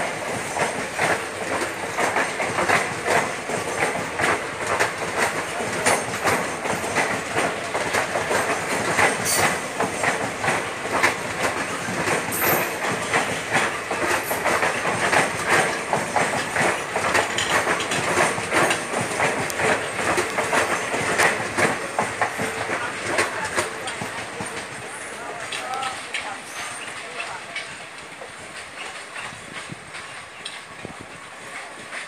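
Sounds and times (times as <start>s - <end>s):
rumble of moving train: 0.0s - 32.0s
train wheels clattering over rail joints: 0.0s - 32.0s.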